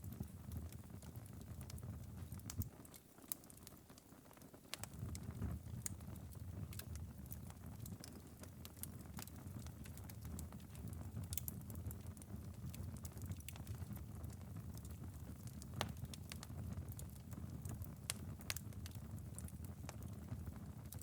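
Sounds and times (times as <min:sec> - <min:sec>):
low fire rumble: 0:00.0 - 0:02.8, 0:04.7 - 0:21.0
embers crackling and popping: 0:00.0 - 0:21.0.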